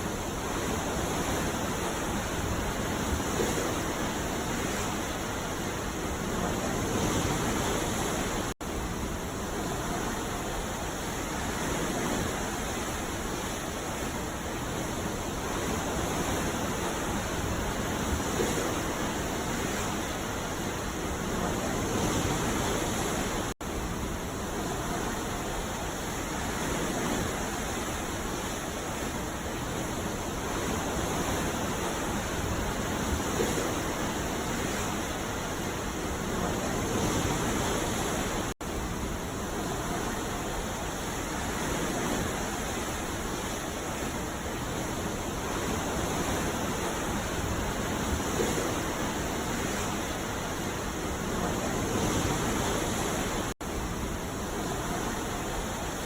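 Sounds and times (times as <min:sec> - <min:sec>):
ocean waves washing on beach: 0:00.0 - 0:56.0.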